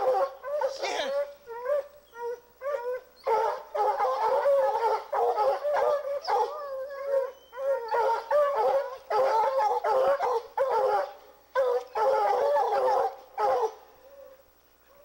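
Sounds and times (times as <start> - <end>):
hounds baying in chorus: 0.0 - 14.4.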